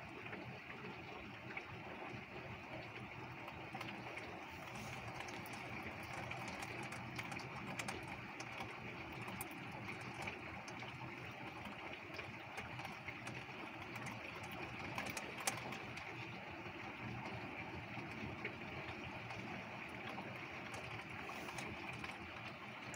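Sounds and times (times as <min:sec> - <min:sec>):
raindrops ticking close by: 0:00.0 - 0:22.9.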